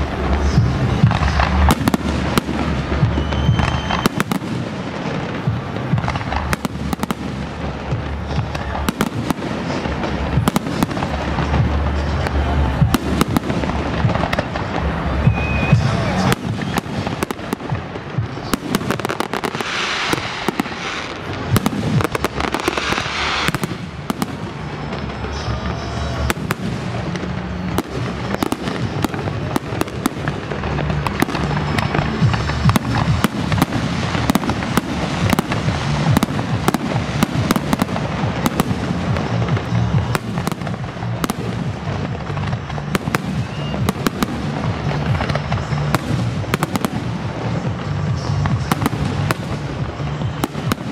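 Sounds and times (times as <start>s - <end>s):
fireworks bangs and crackles: 0.0s - 50.9s
music playing: 0.0s - 50.9s.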